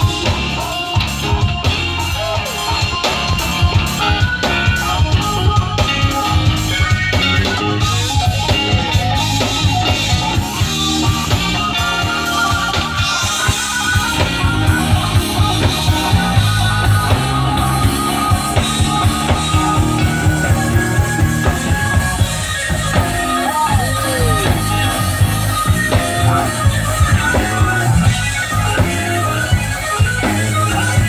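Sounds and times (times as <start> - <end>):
live blues band: 0.0 - 31.0
bending guitar note: 1.4 - 31.0.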